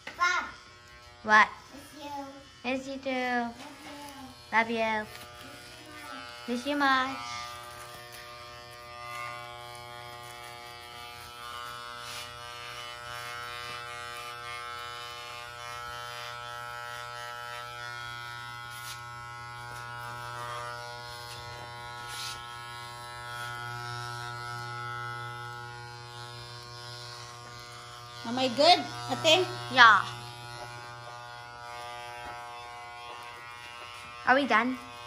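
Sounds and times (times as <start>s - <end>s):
hair clipper buzzing: 0.0s - 35.0s.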